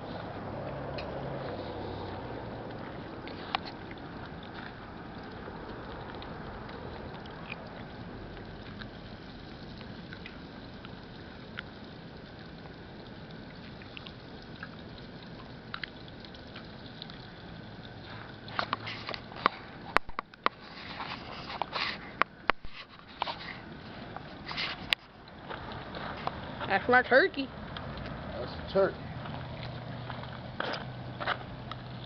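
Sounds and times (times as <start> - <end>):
oil sizzling in fryer: 0.0 - 27.0
oil popping and crackling: 0.0 - 32.0.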